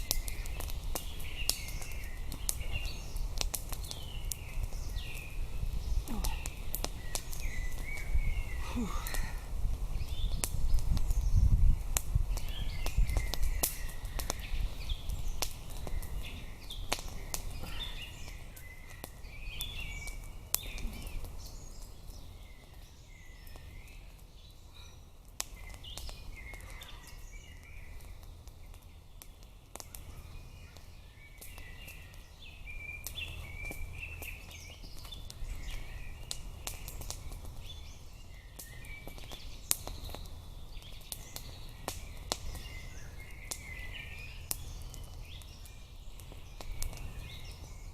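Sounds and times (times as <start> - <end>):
birds chirping and singing: 0.0 - 47.9.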